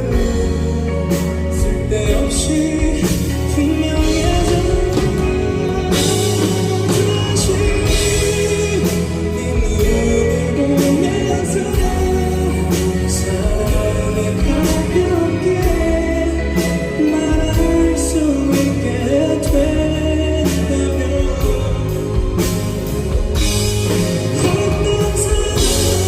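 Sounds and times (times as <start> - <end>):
bass and sustained chords: 0.0 - 26.0
drums striking: 0.0 - 26.0
man singing: 0.0 - 26.0.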